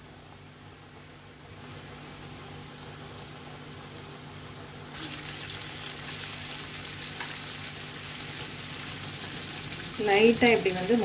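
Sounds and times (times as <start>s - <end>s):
oil sizzling and bubbling: 0.0s - 11.0s.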